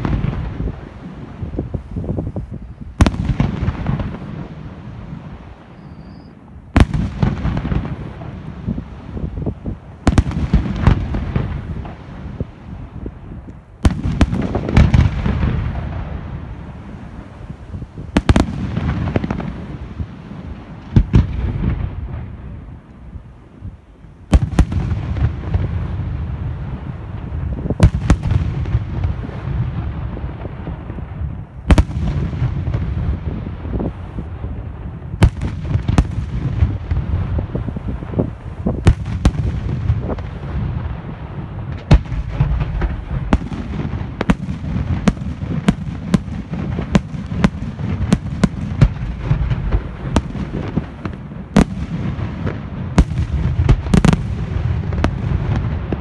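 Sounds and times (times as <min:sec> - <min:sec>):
continuous low rumble: 0:00.0 - 0:56.0.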